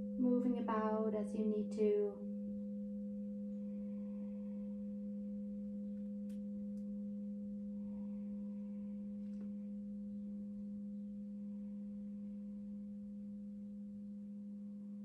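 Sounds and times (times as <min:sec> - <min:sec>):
crystal singing bowl tone: 0:00.0 - 0:15.0.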